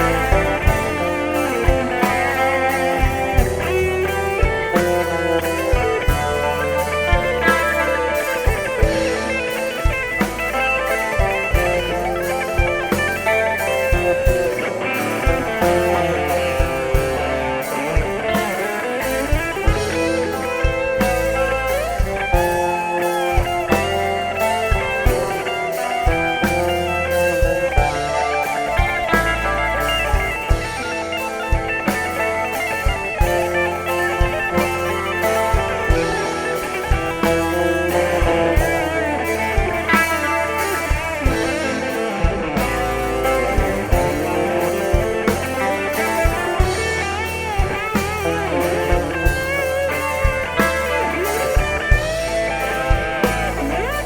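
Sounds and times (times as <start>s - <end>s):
drum beat: 0.0s - 54.0s
lead guitar bending notes: 0.0s - 54.0s
live rock band: 0.0s - 54.0s.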